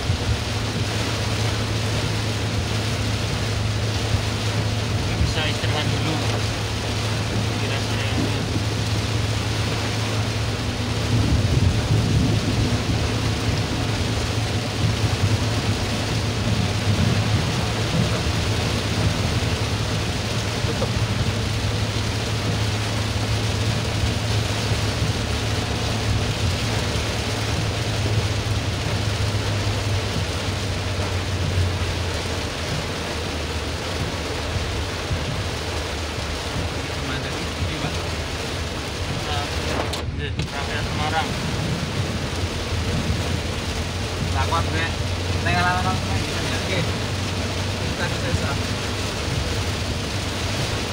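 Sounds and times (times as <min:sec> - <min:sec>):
car driving on wet road: 0:00.0 - 0:50.9
heavy rain on car roof: 0:00.0 - 0:50.9
thunder rumble: 0:00.0 - 0:50.9.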